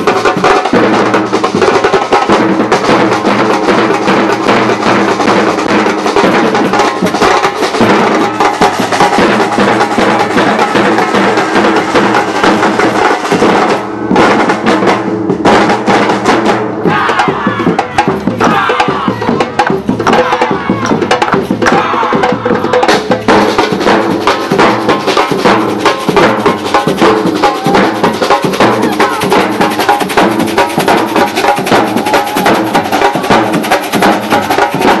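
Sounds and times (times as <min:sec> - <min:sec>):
drum ensemble playing fast rhythm: 0:00.0 - 0:35.0
high drum strokes: 0:00.0 - 0:35.0.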